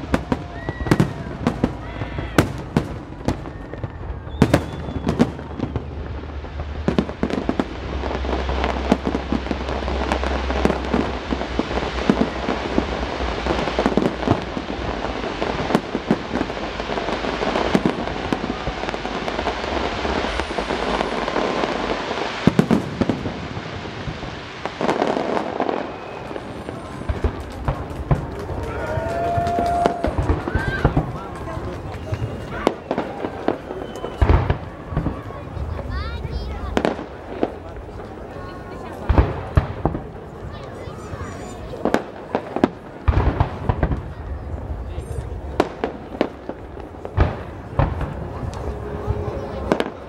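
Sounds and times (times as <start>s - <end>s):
firework crackling: 0.0s - 50.0s.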